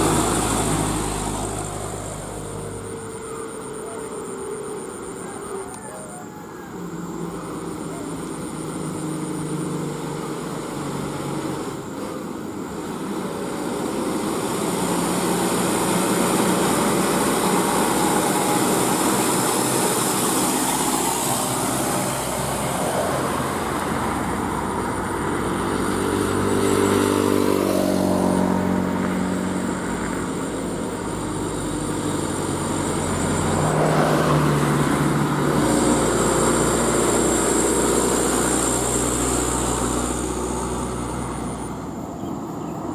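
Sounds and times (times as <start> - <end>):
truck engine labouring uphill: 0.0 - 42.9.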